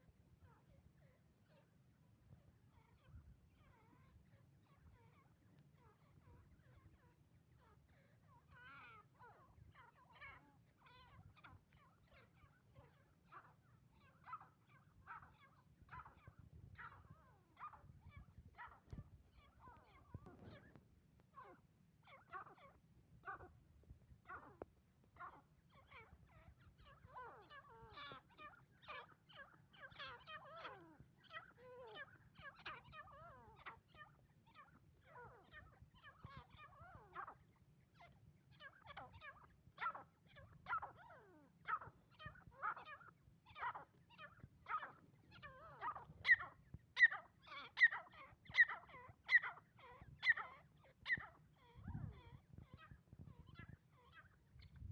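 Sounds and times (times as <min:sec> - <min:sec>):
faint low hum: 0:00.0 - 0:54.9.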